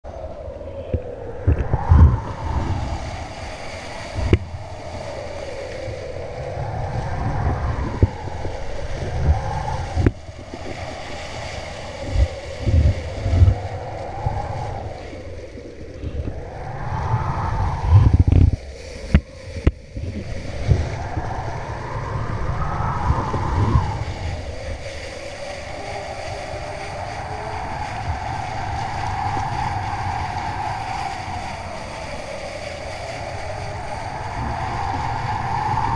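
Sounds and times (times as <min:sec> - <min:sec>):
wind buffeting microphone: 0:00.0 - 0:35.9
rushing water and spray: 0:00.1 - 0:35.9.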